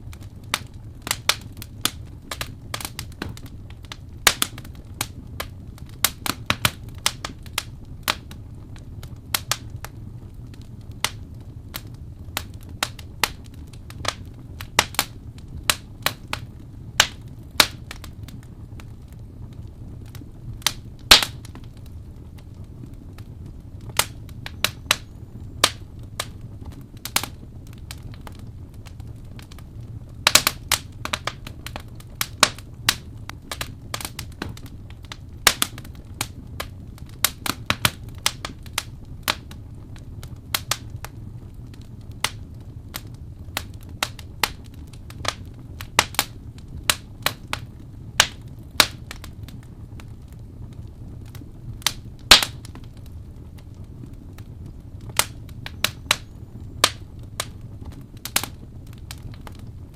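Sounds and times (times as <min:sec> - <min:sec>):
low steady fire rumble: 0:00.0 - 0:59.9
wood fire crackling: 0:00.0 - 0:59.9.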